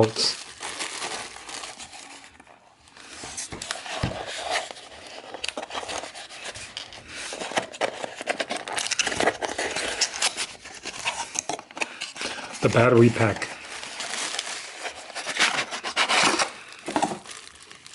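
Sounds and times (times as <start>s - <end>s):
packaging rustling and crinkling: 0.0s - 17.9s.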